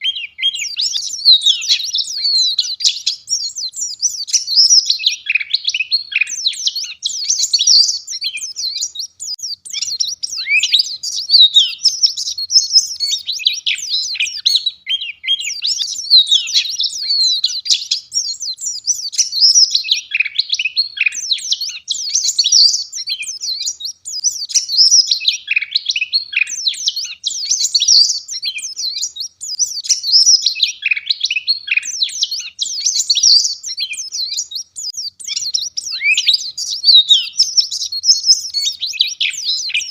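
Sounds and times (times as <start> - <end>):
bird twittering warble: 0.0 - 39.9.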